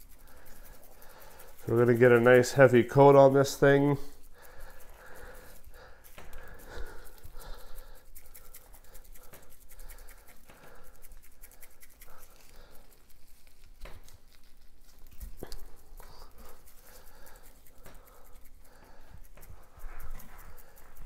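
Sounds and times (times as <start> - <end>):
scratchy handling: 0.0 - 21.0
spice shaker rattling: 0.0 - 21.0.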